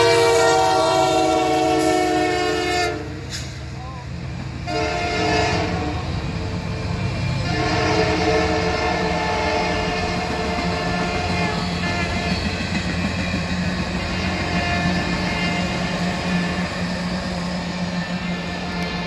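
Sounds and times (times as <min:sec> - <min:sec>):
train cars rolling on rails: 0:00.0 - 0:19.0.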